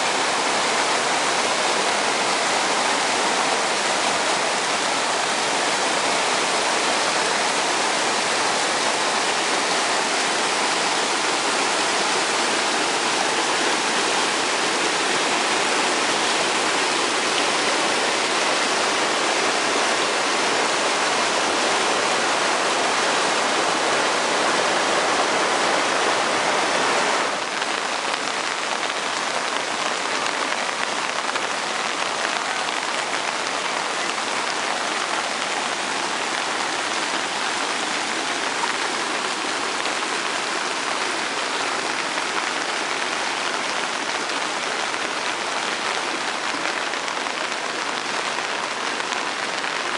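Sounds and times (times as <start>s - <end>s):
flooded creek rushing: 0.0s - 49.9s.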